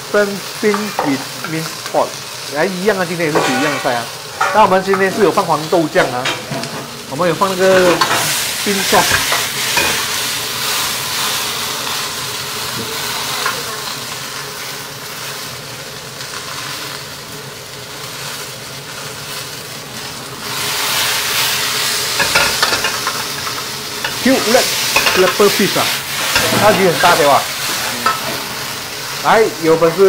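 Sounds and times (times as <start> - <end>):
beans sizzling in oil: 0.0 - 30.0.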